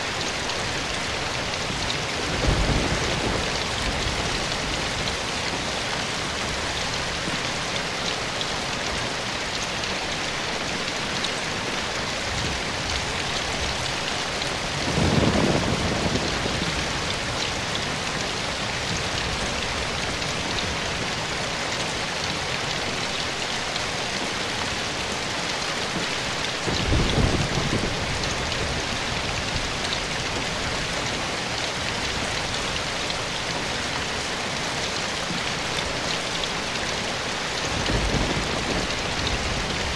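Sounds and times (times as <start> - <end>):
steady rain in a forest: 0.0 - 39.9.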